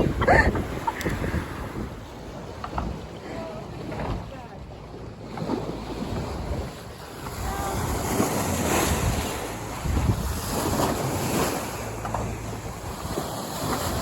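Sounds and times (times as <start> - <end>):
sea water rushing past boat: 0.0 - 14.0
wind buffeting microphone: 0.0 - 14.0.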